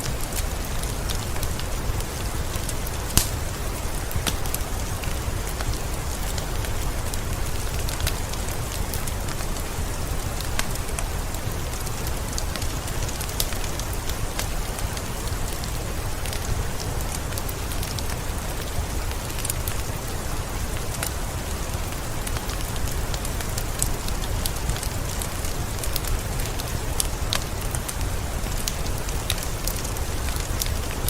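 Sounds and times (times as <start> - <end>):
steady rain: 0.0 - 31.0
wood fire crackling: 0.0 - 31.0.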